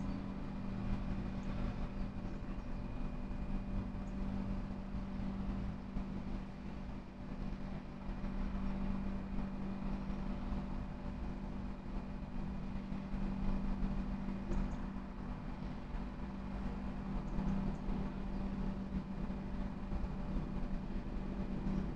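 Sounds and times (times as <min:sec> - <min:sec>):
mechanical hum: 0:00.0 - 0:21.9.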